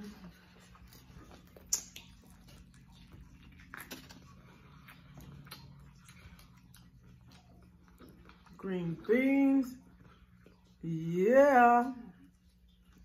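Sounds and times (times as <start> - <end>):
chewing: 0.0 - 10.9, 12.1 - 13.0.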